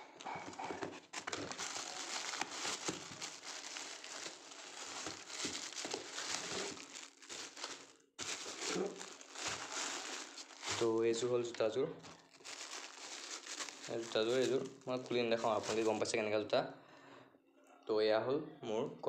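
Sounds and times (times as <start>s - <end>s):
plastic wrapping crinkling: 0.4s - 16.2s.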